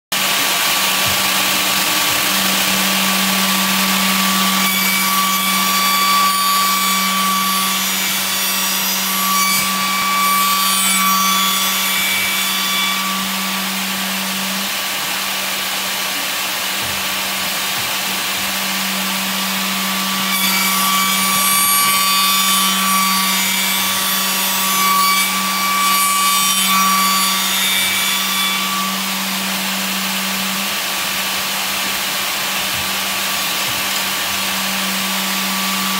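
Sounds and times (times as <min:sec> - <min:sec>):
milling machine humming: 0:00.1 - 0:24.6, 0:25.2 - 0:35.9
cutter whine and rasping: 0:00.1 - 0:35.9.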